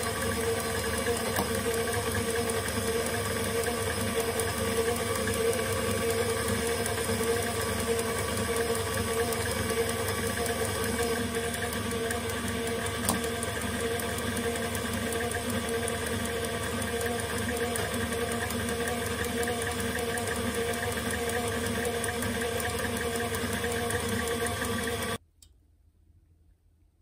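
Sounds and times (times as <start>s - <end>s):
stand mixer whisking: 0.0s - 25.2s.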